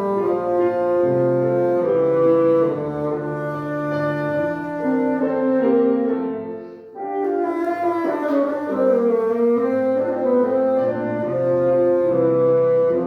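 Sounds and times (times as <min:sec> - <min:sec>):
bassoon playing: 0:00.0 - 0:13.0
piano accompaniment: 0:00.0 - 0:13.0.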